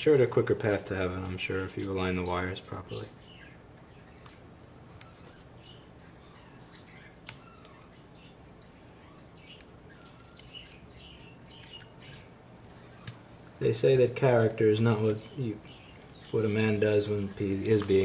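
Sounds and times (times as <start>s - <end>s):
birds chirping softly: 0.0s - 18.0s.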